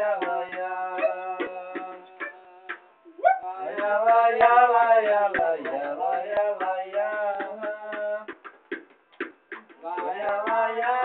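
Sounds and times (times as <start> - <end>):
man singing: 0.0 - 8.4, 9.8 - 11.0
music: 0.0 - 11.0.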